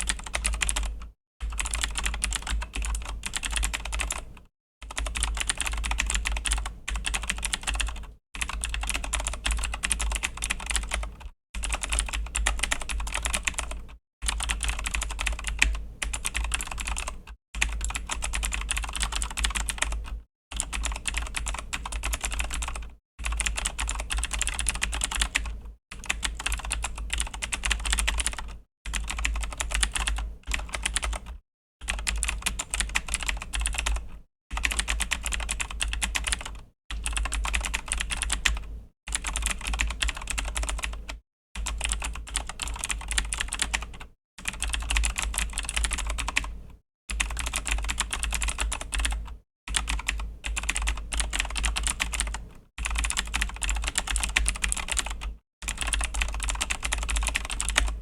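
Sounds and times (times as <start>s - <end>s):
mechanical keyboard typing clicks: 0.0s - 58.0s.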